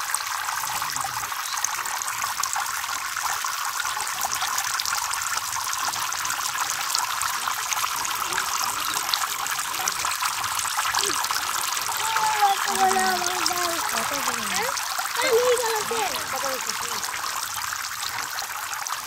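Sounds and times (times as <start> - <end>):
fountain water splashing into tub: 0.0 - 19.0.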